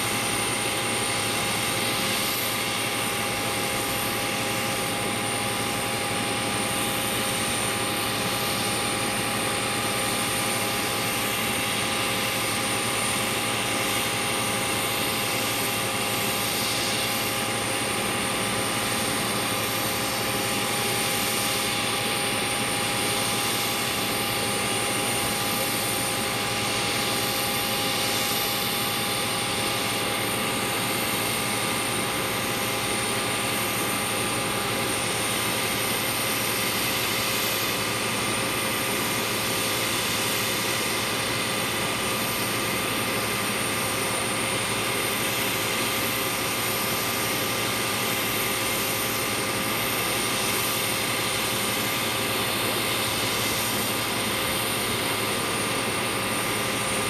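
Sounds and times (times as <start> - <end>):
aircraft auxiliary power unit whine: 0.0 - 57.0.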